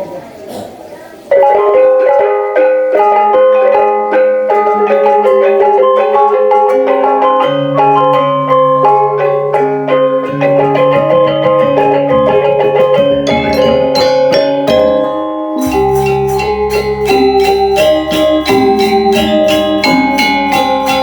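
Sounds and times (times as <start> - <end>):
gamelan music: 1.3 - 21.0.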